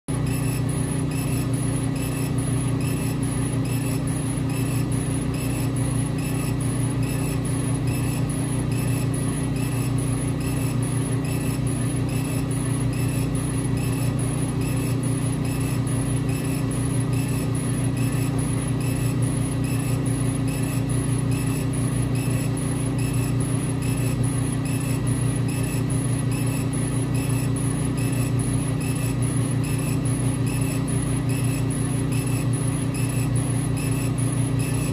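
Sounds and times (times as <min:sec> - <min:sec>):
laser cutter fans humming: 0:00.1 - 0:34.9.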